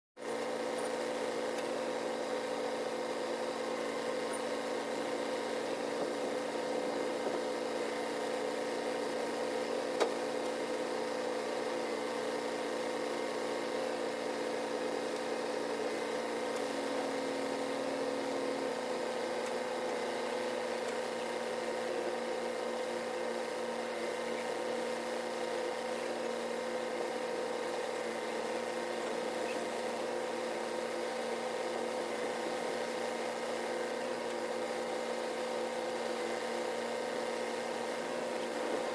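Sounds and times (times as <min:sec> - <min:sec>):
construction machine engine running: 0:00.2 - 0:38.9.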